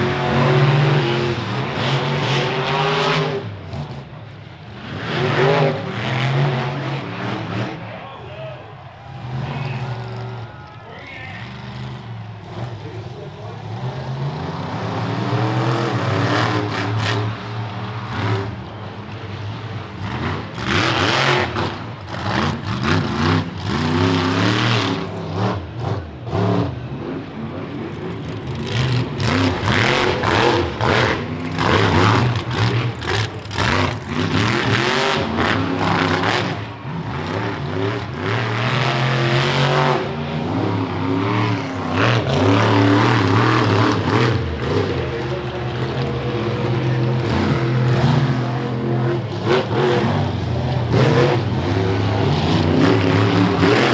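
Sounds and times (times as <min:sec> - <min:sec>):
monster truck engine revving: 0:00.0 - 0:08.0, 0:08.8 - 0:53.9.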